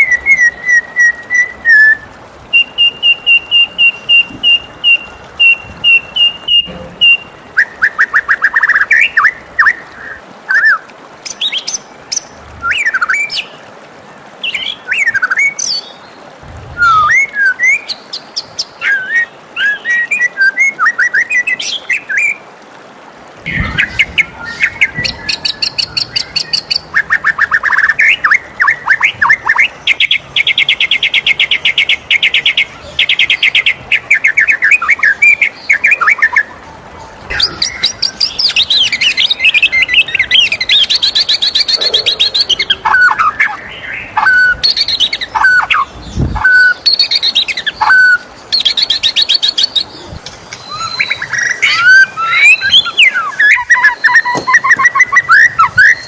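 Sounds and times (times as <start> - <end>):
bird singing varied song: 0.0 - 13.7, 14.4 - 22.4, 23.4 - 56.0.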